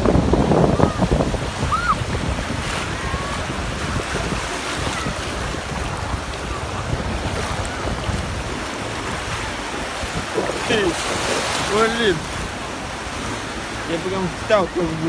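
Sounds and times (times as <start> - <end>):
surf washing in shallows: 0.0 - 15.0
wind buffeting microphone: 0.0 - 15.0.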